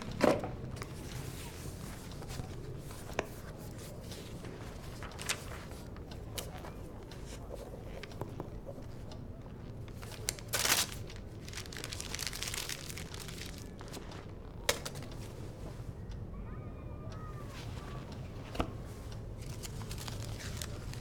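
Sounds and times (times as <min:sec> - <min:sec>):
crinkling rustling handling noise: 0:00.0 - 0:15.9, 0:17.5 - 0:21.0.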